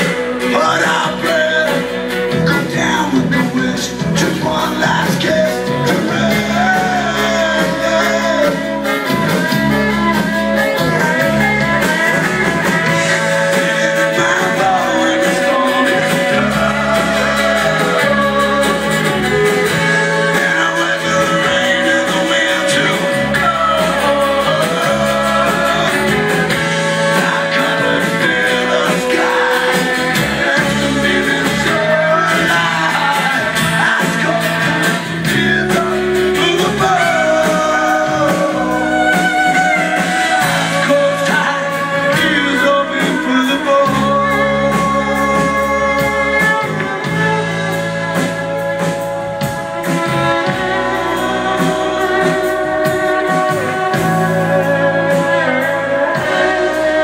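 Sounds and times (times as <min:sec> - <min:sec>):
double bass: 0:00.0 - 0:57.0
man singing: 0:00.0 - 0:57.0.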